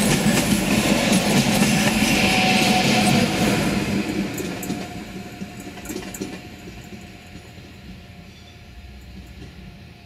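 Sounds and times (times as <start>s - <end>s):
train pulling away: 0.0s - 10.0s.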